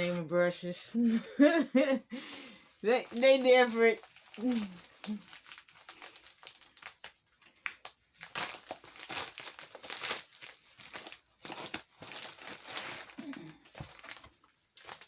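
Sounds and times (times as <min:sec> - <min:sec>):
plastic packaging crinkling: 0:02.2 - 0:15.0.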